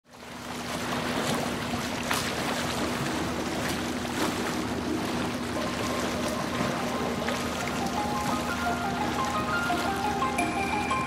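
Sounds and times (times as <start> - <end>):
boat engine humming: 0.1 - 11.0
water rushing and splashing: 0.1 - 11.0.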